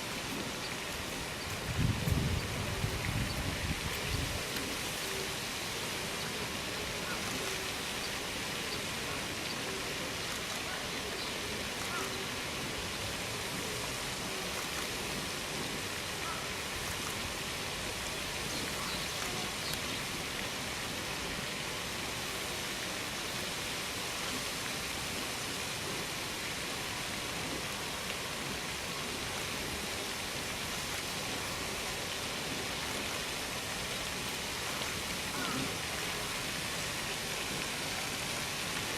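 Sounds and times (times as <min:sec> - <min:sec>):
steady outdoor hiss: 0:00.0 - 0:38.9.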